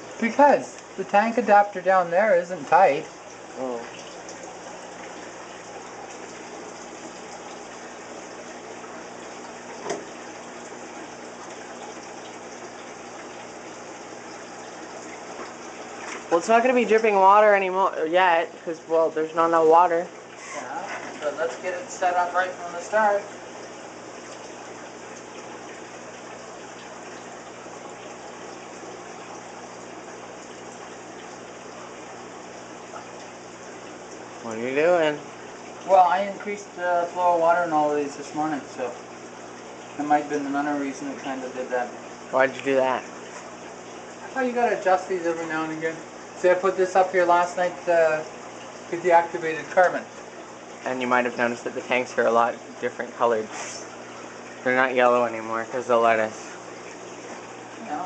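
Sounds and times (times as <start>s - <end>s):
water running and splashing: 0.0s - 58.0s.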